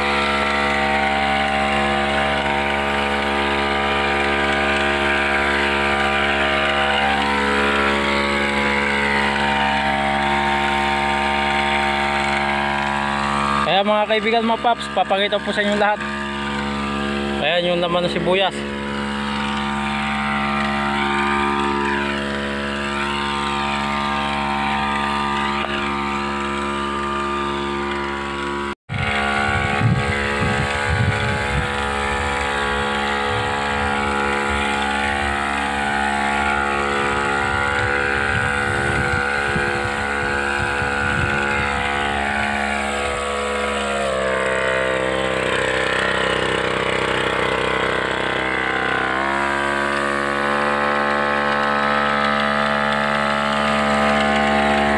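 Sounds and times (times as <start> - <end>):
power sprayer engine running: 0.0 - 54.9.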